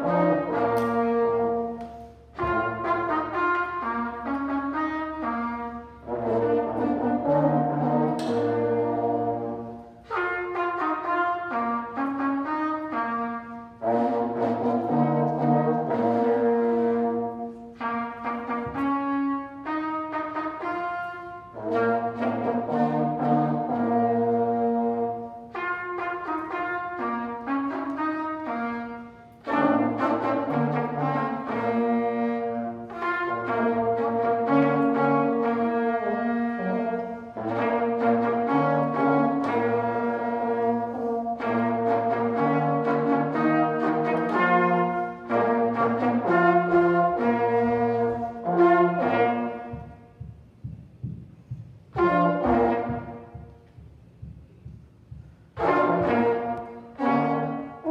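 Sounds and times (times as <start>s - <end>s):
brass quartet playing: 0.0s - 57.9s.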